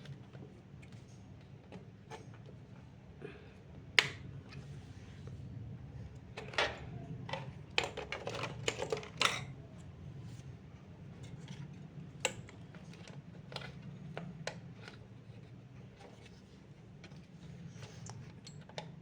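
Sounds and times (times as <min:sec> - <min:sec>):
low steady hum: 0:00.0 - 0:18.8.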